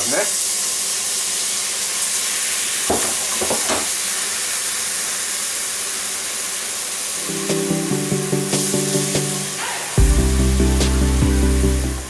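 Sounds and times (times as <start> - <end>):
broth sizzling in frying pan: 0.0 - 10.0.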